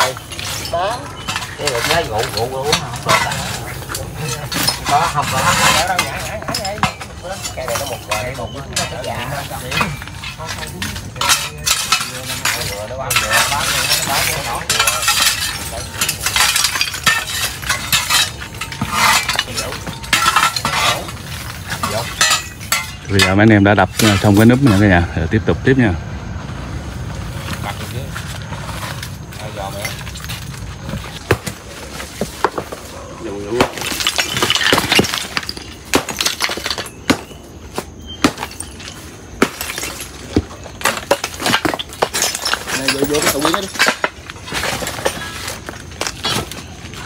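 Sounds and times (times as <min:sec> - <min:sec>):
tools smashing stone lid: 0:00.0 - 0:24.9, 0:33.4 - 0:46.7.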